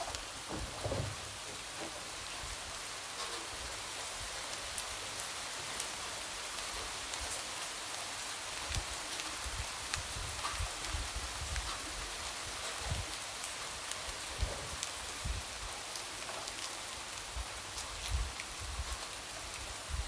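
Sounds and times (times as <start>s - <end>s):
light rain on a window: 0.0s - 20.0s.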